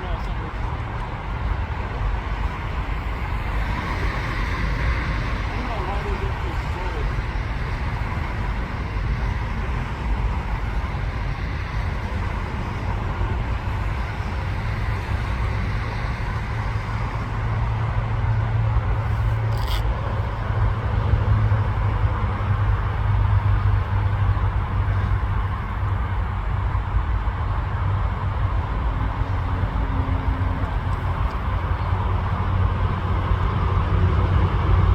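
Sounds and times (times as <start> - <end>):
freight train rumble: 0.0 - 34.9.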